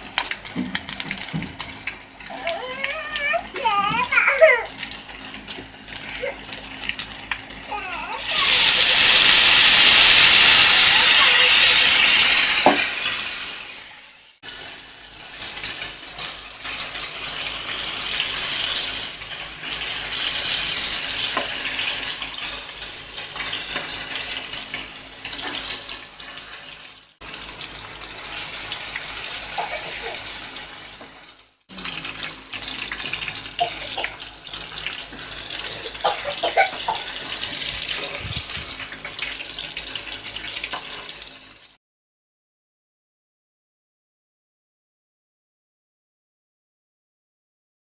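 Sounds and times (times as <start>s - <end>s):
fish sizzling in hot oil: 0.0s - 41.8s.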